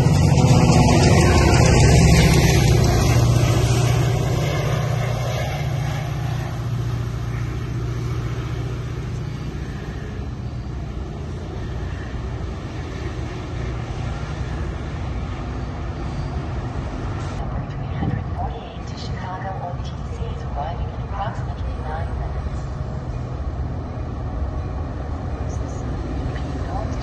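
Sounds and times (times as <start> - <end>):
train passing with rumble: 0.0 - 27.0.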